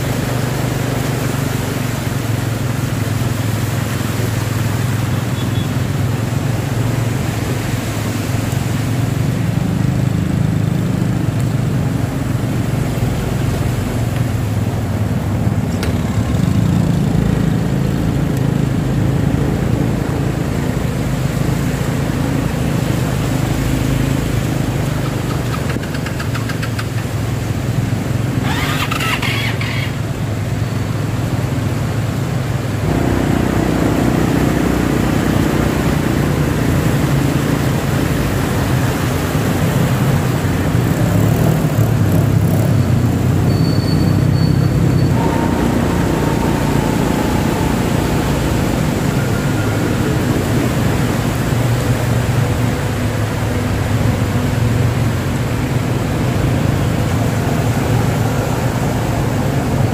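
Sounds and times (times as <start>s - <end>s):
motorcycle and car engines: 0.0s - 59.9s.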